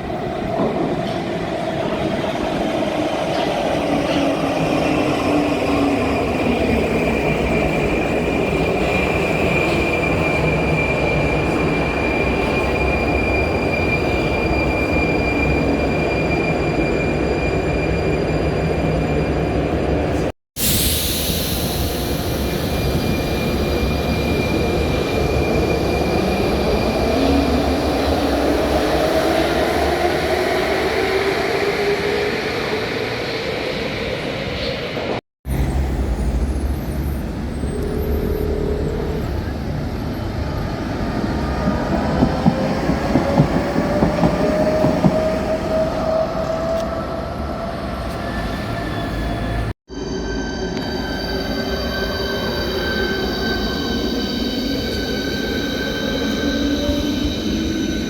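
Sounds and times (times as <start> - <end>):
rail vehicle rumble: 0.0 - 58.0.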